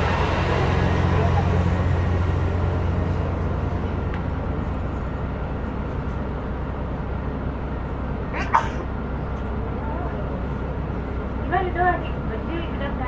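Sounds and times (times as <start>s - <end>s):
diesel railcar engine drone: 0.0s - 13.0s.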